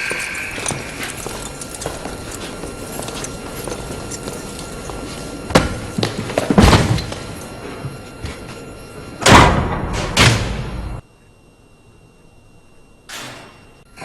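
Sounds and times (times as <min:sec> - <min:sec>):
steady noisy background: 0:00.0 - 0:14.0.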